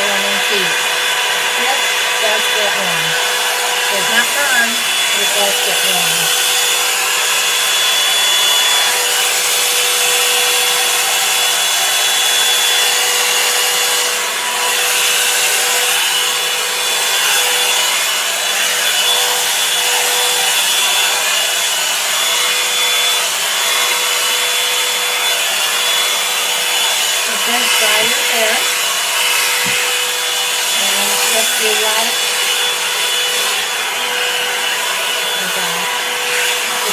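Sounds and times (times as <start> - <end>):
hot-air brush dryer running: 0.0 - 36.9.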